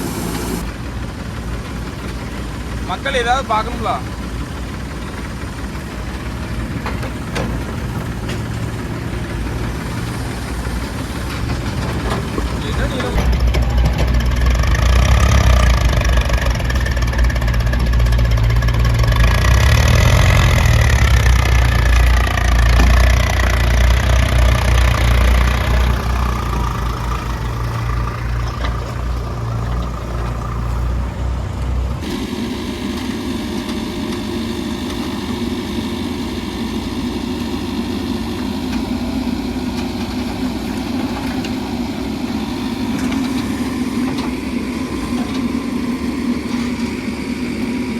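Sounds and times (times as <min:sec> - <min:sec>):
backhoe diesel engine working: 0:00.0 - 0:47.9.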